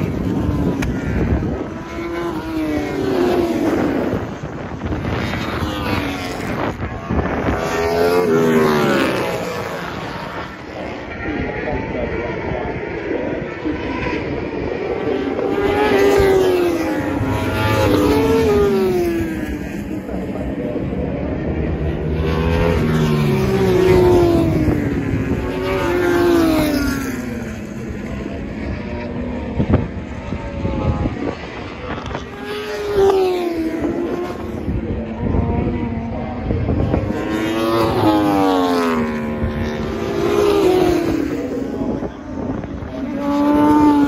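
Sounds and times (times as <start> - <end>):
racing motorcycles passing: 0.0 - 44.0.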